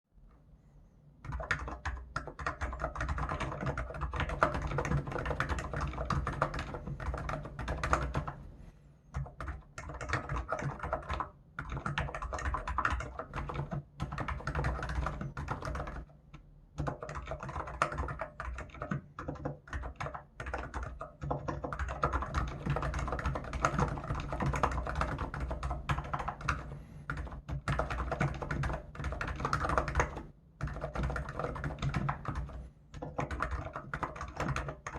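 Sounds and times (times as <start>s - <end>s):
keyboard typing: 1.2s - 8.5s, 9.1s - 34.9s.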